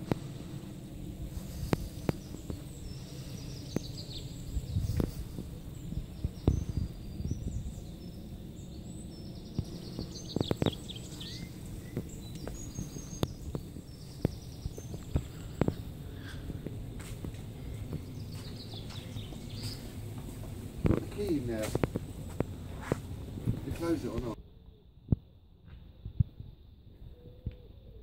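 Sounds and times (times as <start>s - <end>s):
small birds chirping: 0.0s - 25.1s
steady low rumble: 0.0s - 28.0s.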